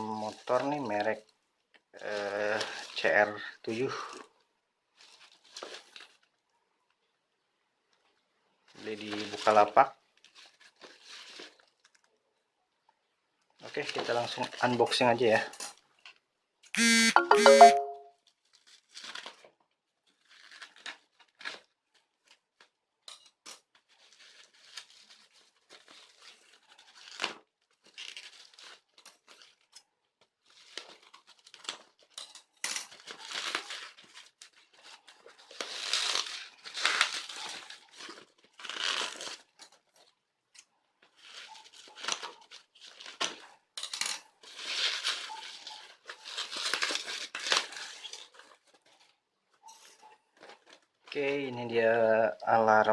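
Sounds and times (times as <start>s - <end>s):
packaging tearing and crinkling: 0.0s - 6.4s, 8.6s - 12.2s, 18.2s - 51.2s.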